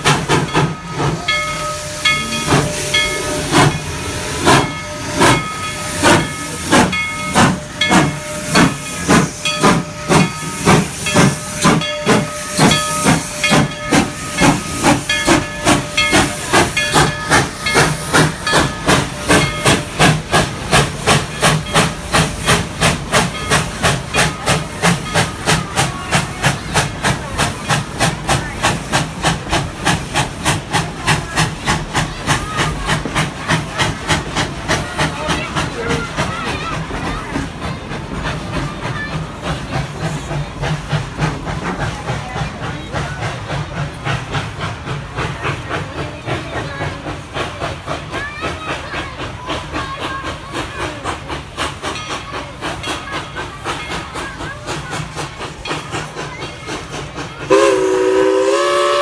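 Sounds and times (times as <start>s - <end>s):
hissing steam: 0.0s - 59.0s
steam locomotive exhaust chuffs: 0.0s - 59.0s.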